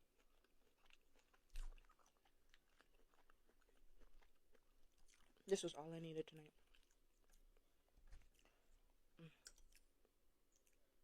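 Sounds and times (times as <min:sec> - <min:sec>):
chewing steak: 0:00.0 - 0:11.0.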